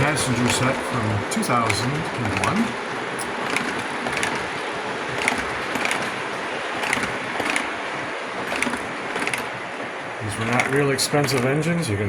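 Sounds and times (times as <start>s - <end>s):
model train rolling on track: 0.0s - 12.0s
wheels clicking over rail joints: 0.0s - 12.0s.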